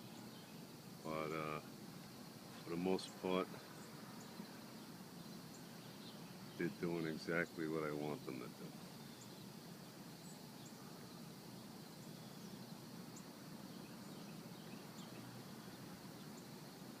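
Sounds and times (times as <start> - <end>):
high insect hum: 0.0 - 17.0.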